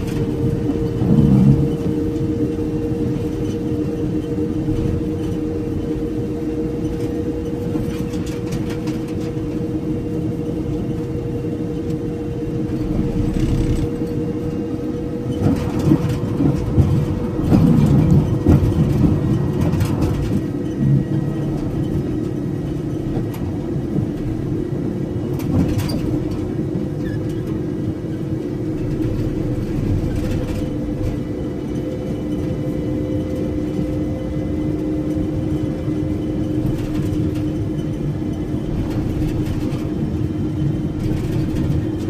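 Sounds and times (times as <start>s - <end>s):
truck road and engine noise: 0.0s - 42.0s.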